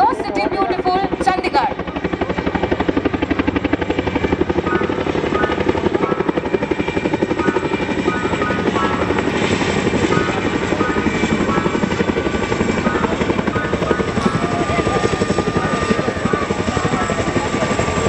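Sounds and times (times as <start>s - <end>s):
helicopter rotors beating: 0.0s - 18.0s.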